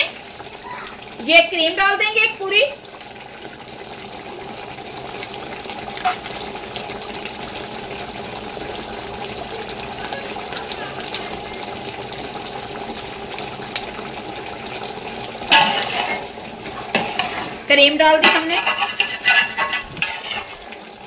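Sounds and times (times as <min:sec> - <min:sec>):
food bubbling and sizzling in pot: 0:00.0 - 0:21.0.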